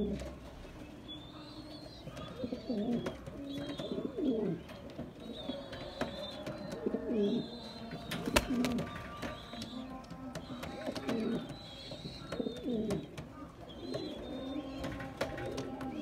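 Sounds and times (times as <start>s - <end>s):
pigeons cooing: 0.0s - 16.0s
faint high bird calls: 1.1s - 16.0s.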